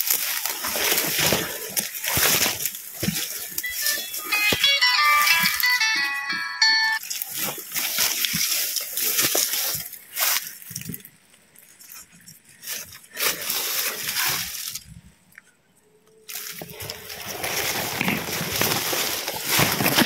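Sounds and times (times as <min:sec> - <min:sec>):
dry leaves rustling and crackling: 0:00.0 - 0:06.0, 0:07.0 - 0:15.2, 0:16.3 - 0:20.0.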